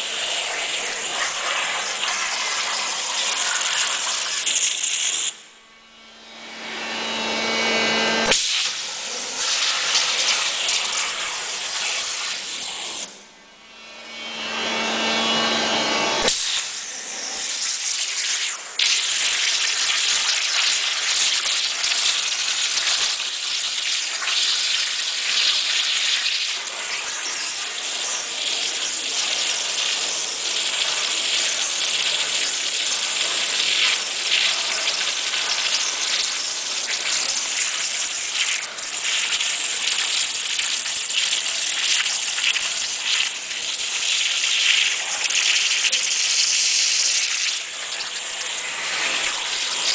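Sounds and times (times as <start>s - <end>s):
water jet hissing: 0.0s - 5.4s, 8.2s - 13.2s, 16.2s - 49.9s.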